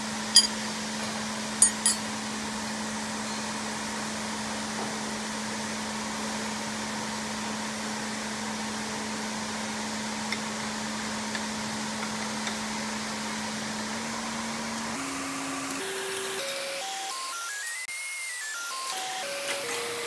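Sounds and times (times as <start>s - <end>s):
workshop machinery humming: 0.0s - 17.3s.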